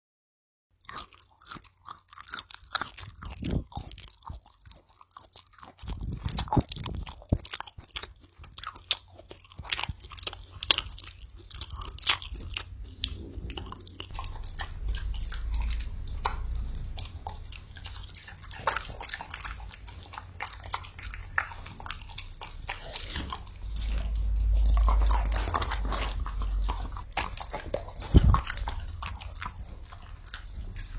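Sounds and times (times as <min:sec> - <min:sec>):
person chewing crunchy food: 0:00.8 - 0:30.9.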